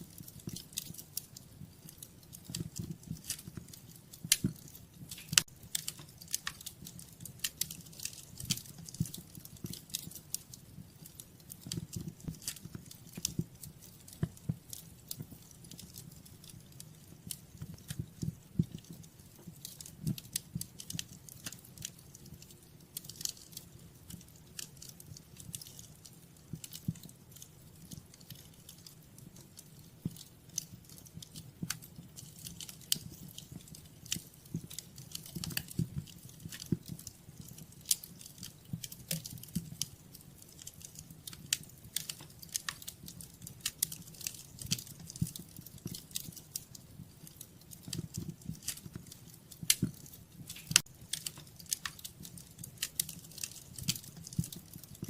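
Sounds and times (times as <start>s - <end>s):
low rumble of flames: 0.0s - 55.0s
sharp pops and snaps: 0.0s - 55.0s
wood fire crackling: 0.0s - 55.0s.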